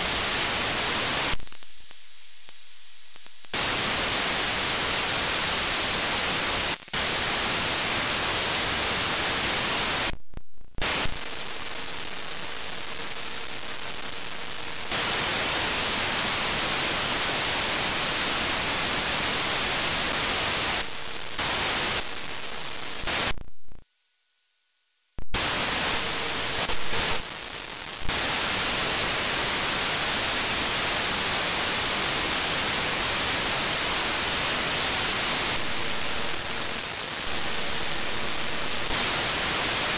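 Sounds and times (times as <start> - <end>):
radio static hiss: 0.0 - 23.8, 25.2 - 39.9.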